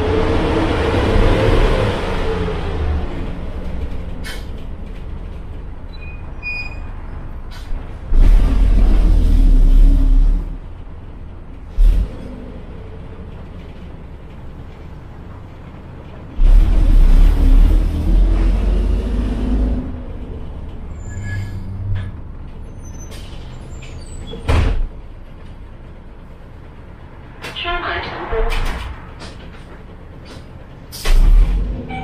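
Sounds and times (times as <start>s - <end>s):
bus engine idling: 0.0s - 32.0s.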